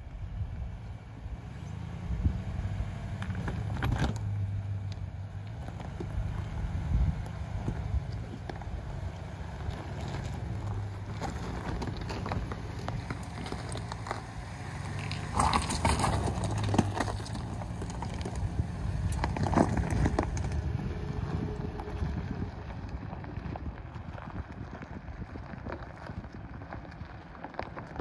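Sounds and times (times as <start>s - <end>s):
engine rumble: 0.0s - 28.0s
tyres crunching on stones: 2.7s - 28.0s.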